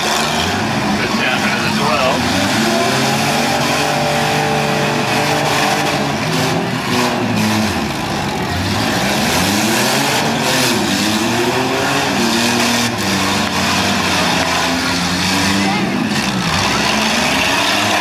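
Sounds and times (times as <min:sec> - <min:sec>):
car engines revving hard: 0:00.0 - 0:18.0.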